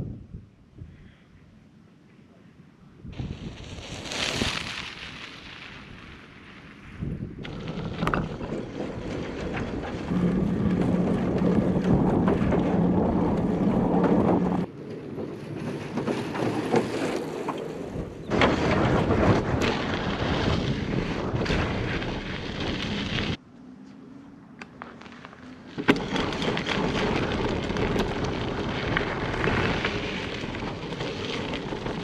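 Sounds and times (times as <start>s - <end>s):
wind buffeting microphone: 0.0s - 1.1s, 3.0s - 23.4s, 25.9s - 32.0s
bike tyres rolling on gravel: 3.1s - 23.4s, 24.6s - 32.0s.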